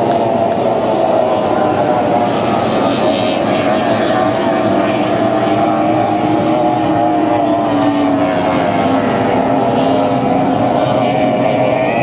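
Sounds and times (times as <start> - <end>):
powerboat engines droning: 0.0 - 12.0.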